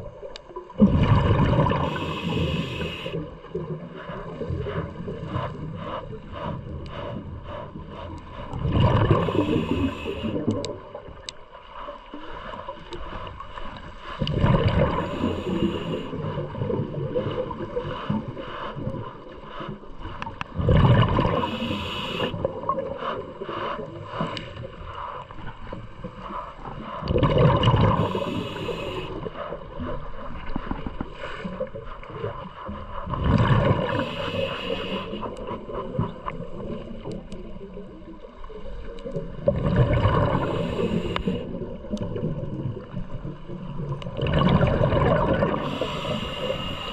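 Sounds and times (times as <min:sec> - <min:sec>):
gurgling exhaled bubbles: 0:00.0 - 0:11.3, 0:12.5 - 0:46.9
diver breathing through regulator: 0:01.3 - 0:11.0, 0:11.7 - 0:37.7, 0:39.6 - 0:42.0, 0:44.4 - 0:46.9.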